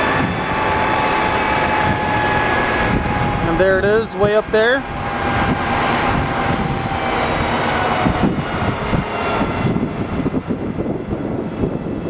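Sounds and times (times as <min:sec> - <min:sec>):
faint whine: 0:00.0 - 0:10.0
truck engine rumbling drone: 0:00.0 - 0:12.0.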